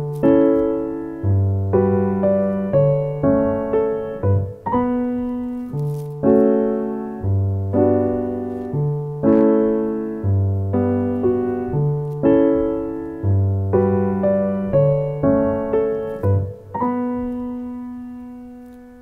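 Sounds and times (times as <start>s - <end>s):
gentle piano chords: 0.0s - 19.0s.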